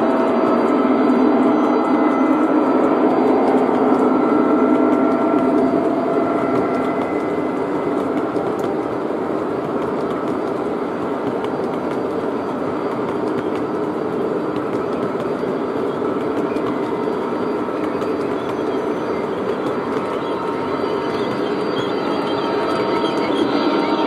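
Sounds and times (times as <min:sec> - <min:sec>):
faint steady tones: 0:00.0 - 0:24.0
model train wheels clattering: 0:00.0 - 0:24.0.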